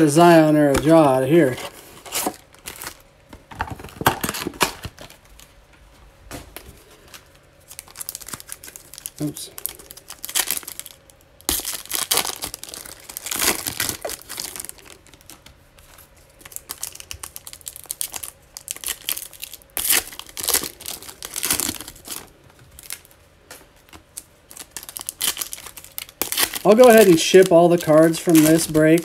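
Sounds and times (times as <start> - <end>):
foil wrappers crinkling and tearing: 0.0 - 5.6, 6.6 - 29.0.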